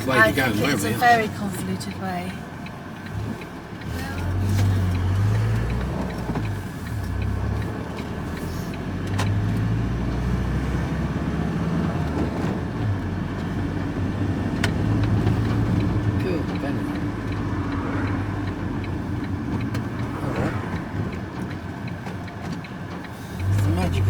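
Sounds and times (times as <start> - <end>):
van engine and road noise: 0.0 - 24.0.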